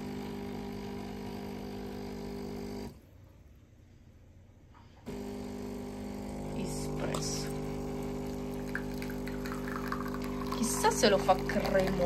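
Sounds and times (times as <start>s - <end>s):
coffee machine pump humming: 0.0s - 3.0s, 5.1s - 12.0s.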